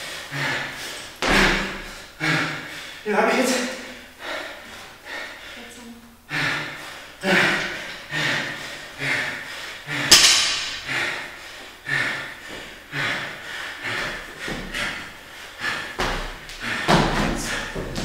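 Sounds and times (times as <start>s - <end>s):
man breathing hard: 0.0s - 18.0s.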